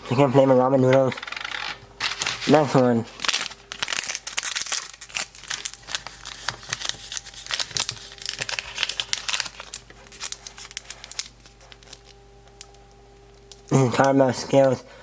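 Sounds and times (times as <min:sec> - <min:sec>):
plastic bag crinkling and tearing: 0:01.0 - 0:14.1.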